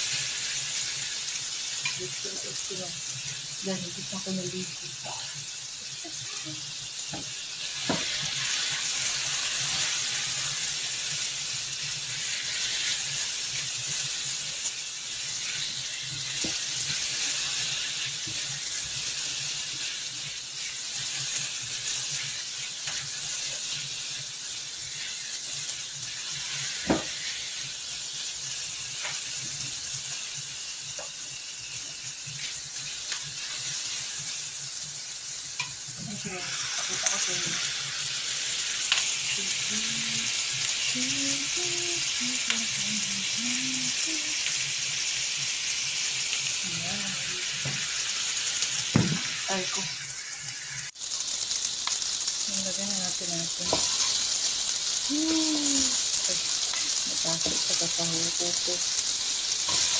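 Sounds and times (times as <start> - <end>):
vegetables sizzling in frying pan: 0.0 - 59.9.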